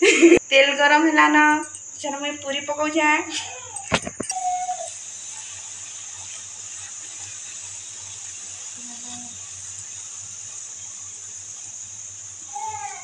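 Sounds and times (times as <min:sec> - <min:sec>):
deep-frying in hot oil: 0:02.5 - 0:13.0.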